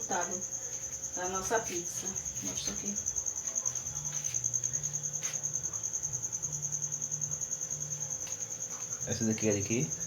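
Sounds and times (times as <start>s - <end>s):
cricket chirping: 0.0s - 10.0s.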